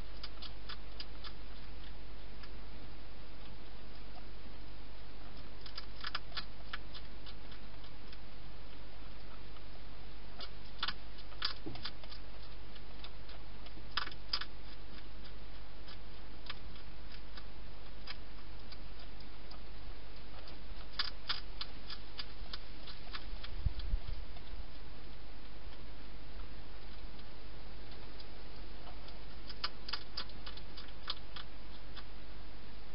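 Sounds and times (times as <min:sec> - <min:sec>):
hedgehog crunching food: 0:00.0 - 0:32.5
low electrical hum: 0:00.0 - 0:32.9.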